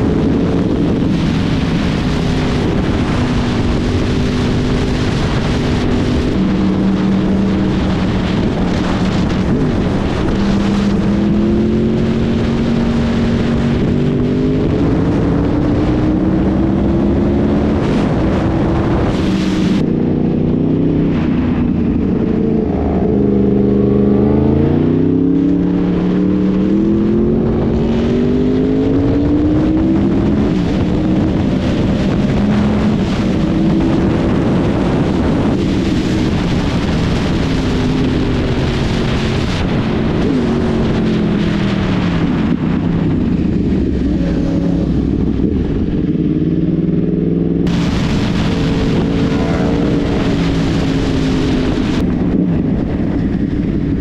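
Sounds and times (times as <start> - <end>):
heavy wind noise: 0.0 - 54.0
motorcycle engine revving: 0.0 - 54.0.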